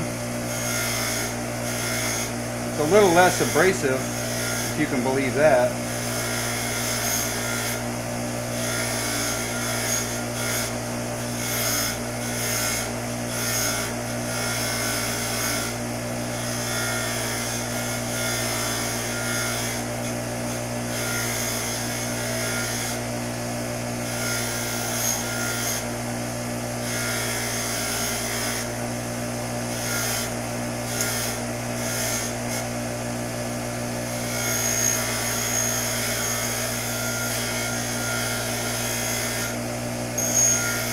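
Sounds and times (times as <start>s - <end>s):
wire wheel rasping on steel: 0.0s - 7.9s, 8.5s - 23.1s, 24.0s - 25.9s, 26.8s - 28.8s, 29.7s - 32.7s, 34.1s - 39.6s, 40.2s - 40.9s
bench grinder motor hum: 0.0s - 40.9s.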